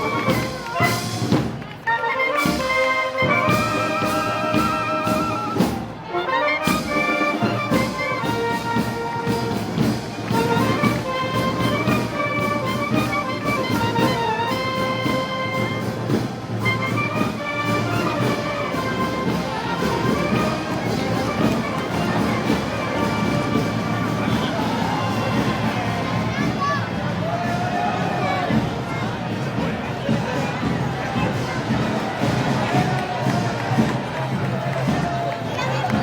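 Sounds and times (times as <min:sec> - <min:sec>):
brass band playing march: 0:00.0 - 0:36.0
steady drum beat: 0:00.0 - 0:36.0.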